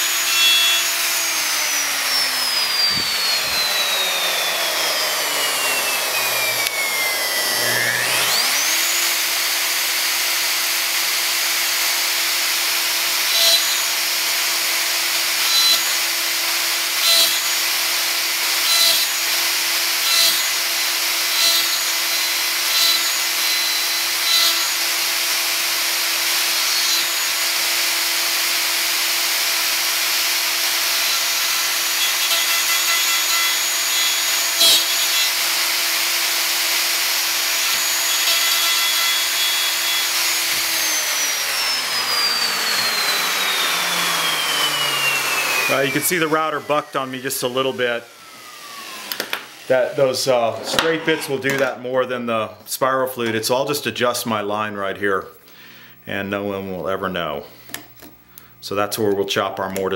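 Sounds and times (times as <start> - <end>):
router whining: 0.0 - 52.2
router cutting into wood: 0.0 - 52.3.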